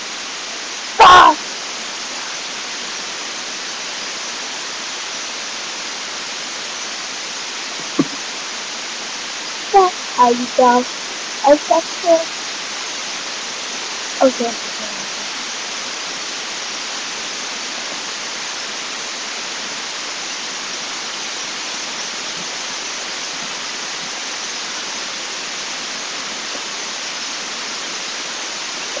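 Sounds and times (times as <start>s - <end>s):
microphone hiss: 0.0s - 29.0s.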